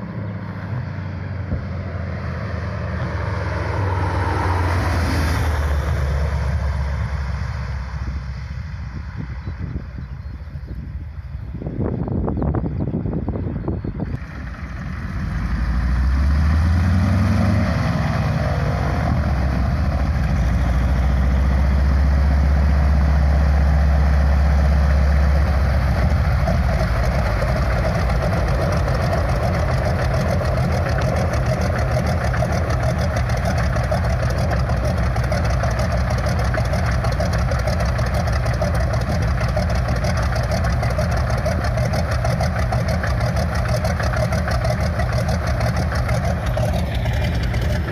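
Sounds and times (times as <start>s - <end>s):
radial aircraft engine running: 0.0s - 47.9s.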